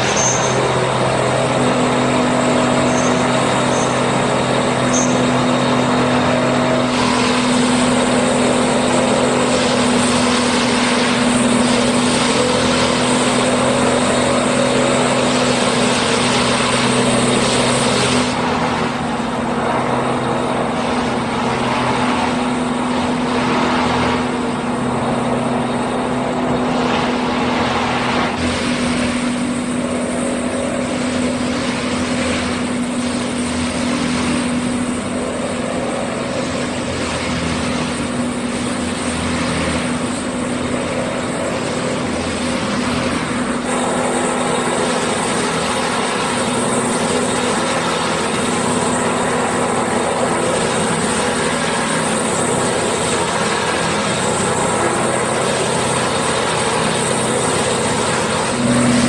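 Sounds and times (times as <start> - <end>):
broad rushing noise: 0.0 - 59.0
engine running steadily: 0.0 - 59.0.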